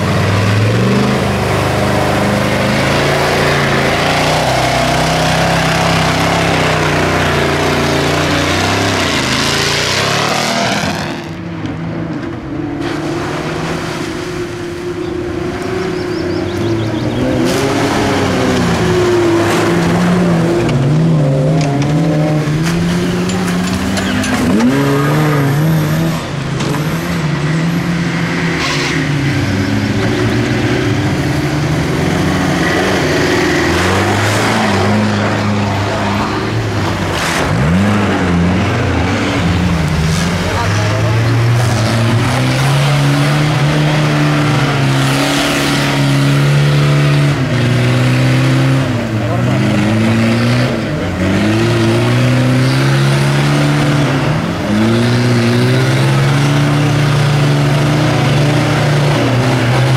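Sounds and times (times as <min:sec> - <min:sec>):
off-road engines revving: 0:00.0 - 0:59.9.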